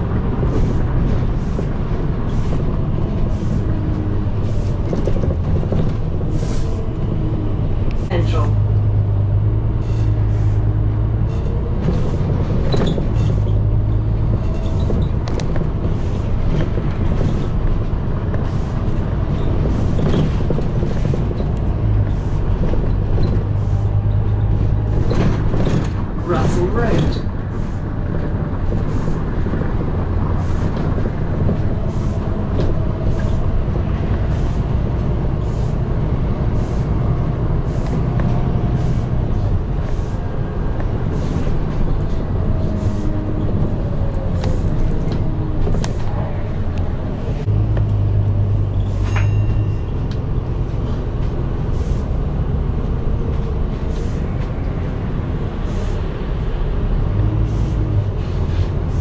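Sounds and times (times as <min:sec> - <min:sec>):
bus engine drone: 0:00.0 - 0:59.0
road noise: 0:00.0 - 0:59.0.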